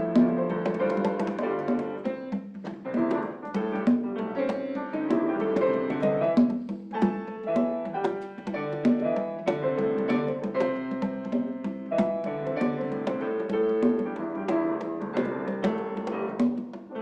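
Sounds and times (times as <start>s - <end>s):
lively piano playing: 0.0s - 17.0s.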